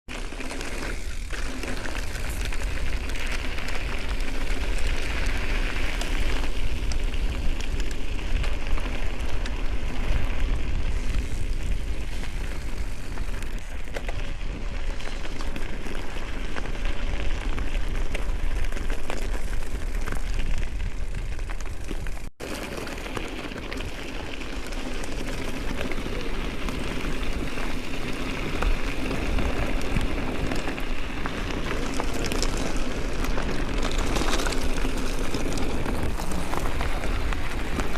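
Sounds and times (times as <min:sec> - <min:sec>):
tyres rolling over loose dirt: 0:00.1 - 0:37.9.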